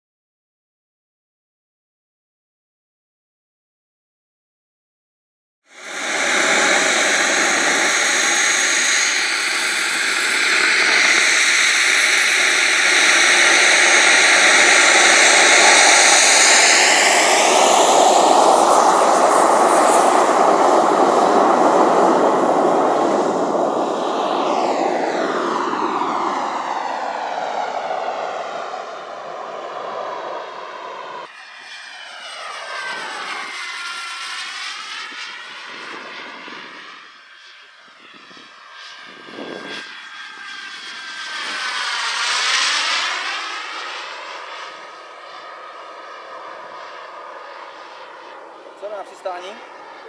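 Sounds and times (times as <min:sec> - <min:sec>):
model airplane motor: 0:05.8 - 0:24.2, 0:25.9 - 0:50.0.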